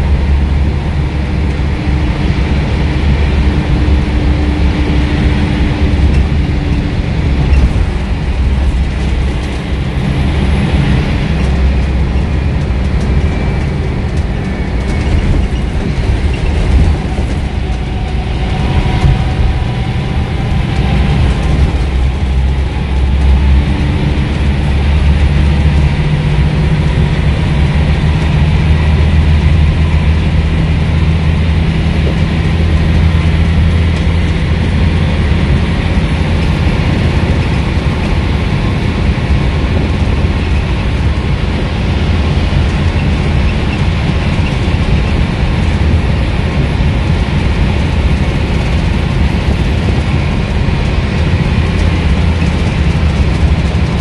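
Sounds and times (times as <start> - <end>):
bus diesel engine droning: 0.0 - 54.0
road and tyre noise: 0.0 - 54.0.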